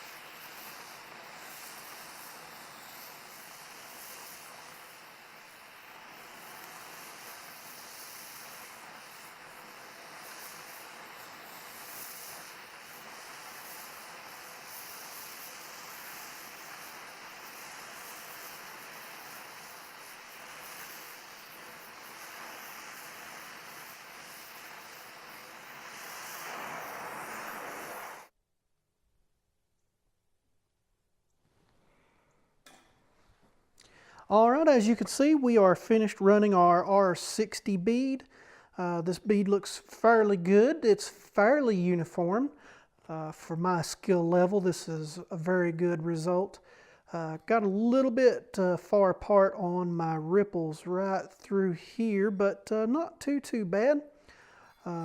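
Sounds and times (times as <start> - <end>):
torch flame hissing: 0.0 - 28.4, 33.8 - 49.4, 50.0 - 55.0.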